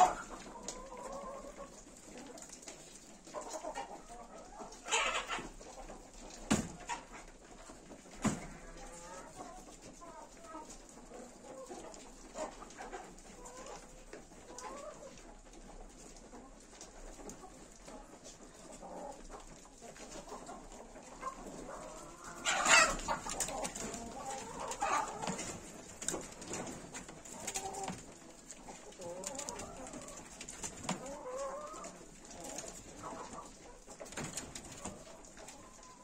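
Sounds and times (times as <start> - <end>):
farmyard birds calling: 0.0 - 36.0
rabbits scuffling on wire mesh: 0.0 - 36.0.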